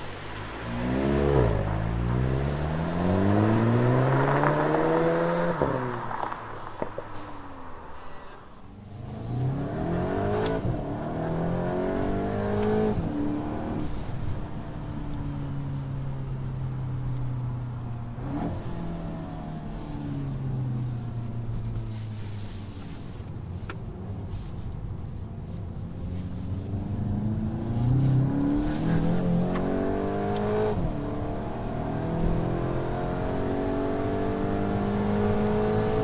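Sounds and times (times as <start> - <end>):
car engine accelerating hard: 0.0 - 23.1, 25.5 - 36.0.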